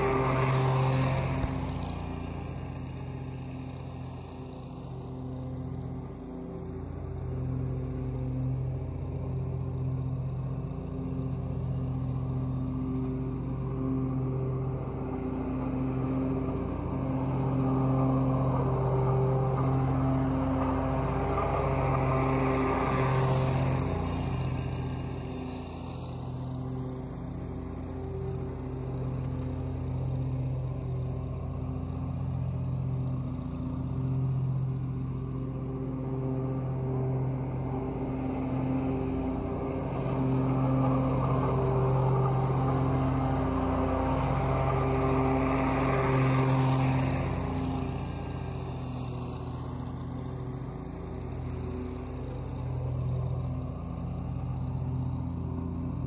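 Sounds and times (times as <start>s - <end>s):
mower engine running: 0.0s - 56.0s.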